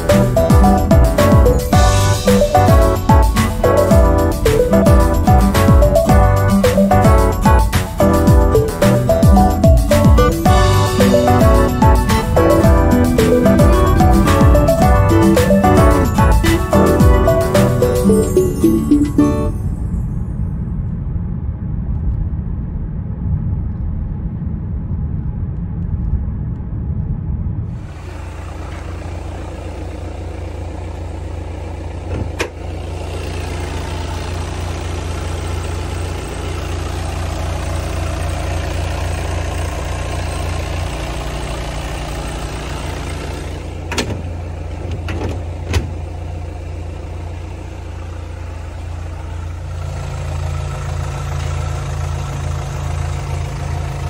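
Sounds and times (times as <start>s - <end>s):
diesel engine idling: 0.0s - 19.8s, 27.7s - 54.0s
car interior engine rumble: 0.0s - 54.0s.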